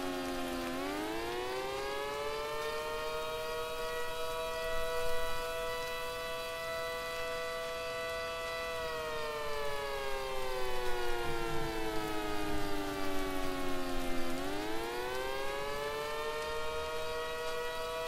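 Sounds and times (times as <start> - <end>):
two-tone siren wailing: 0.0 - 18.0.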